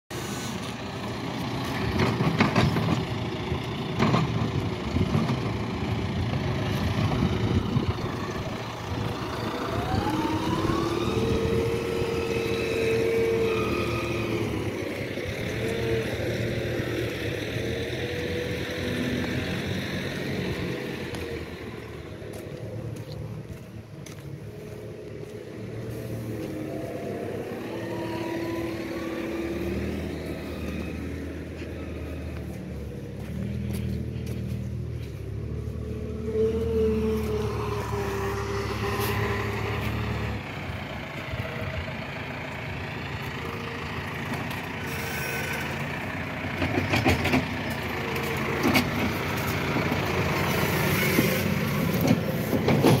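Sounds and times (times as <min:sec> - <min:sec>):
tractor diesel engine revving: 0:00.1 - 0:53.0.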